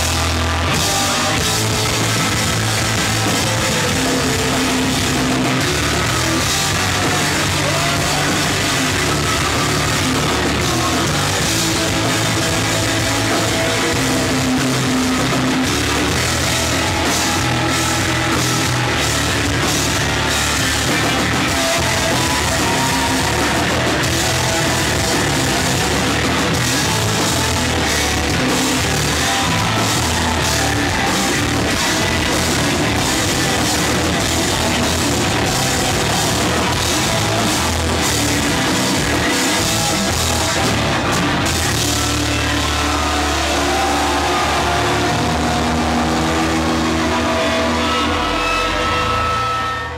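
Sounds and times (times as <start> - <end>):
rock band playing: 0.0 - 49.9.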